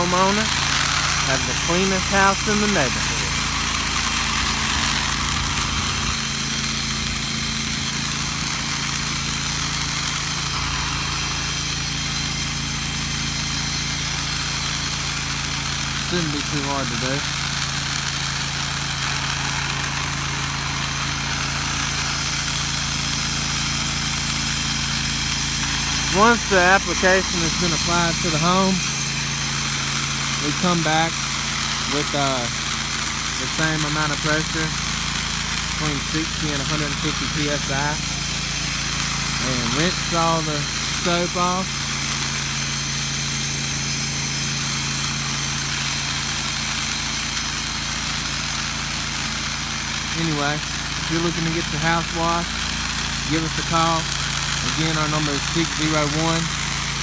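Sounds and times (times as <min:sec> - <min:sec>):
small gasoline engine running: 0:00.0 - 0:57.0
spray hissing: 0:00.0 - 0:57.0.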